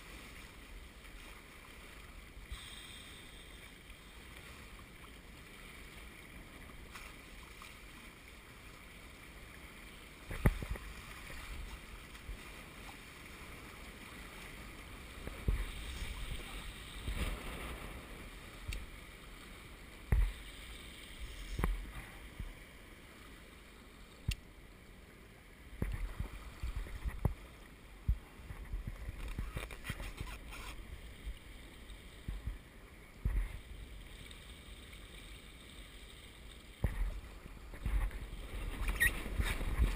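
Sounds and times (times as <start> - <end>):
water rushing along hulls: 0.0 - 39.9.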